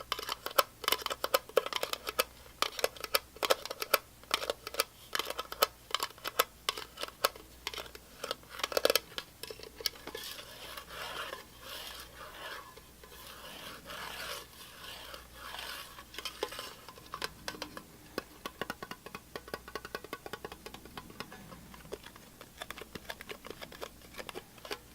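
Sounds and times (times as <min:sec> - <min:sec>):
steady scratching: 0:00.0 - 0:24.9.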